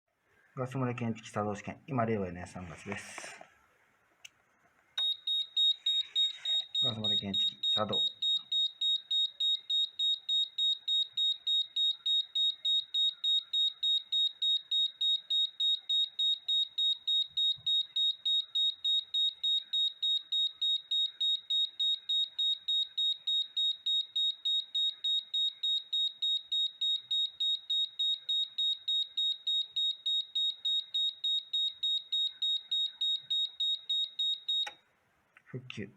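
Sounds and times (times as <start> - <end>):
gas alarm rapid high beeps: 5.0 - 34.8.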